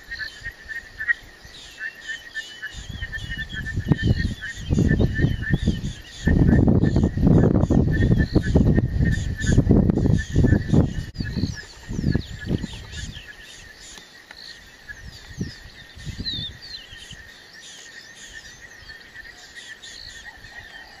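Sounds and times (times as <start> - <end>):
wild birds chirping: 0.0 - 21.0.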